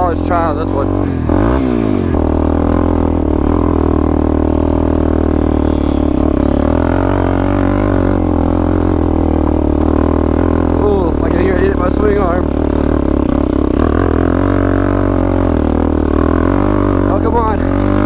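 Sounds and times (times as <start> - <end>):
quad engine pulling uphill: 0.0 - 18.0.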